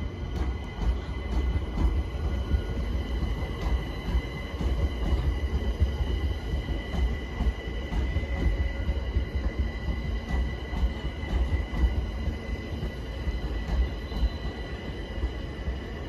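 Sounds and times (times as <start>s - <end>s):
electric train rumbling and whining: 0.0s - 16.0s.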